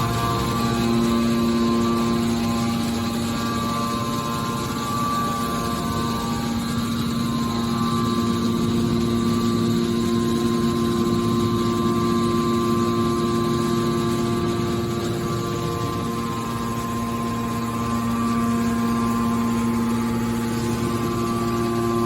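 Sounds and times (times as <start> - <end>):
hydraulic baler humming: 0.0 - 22.0.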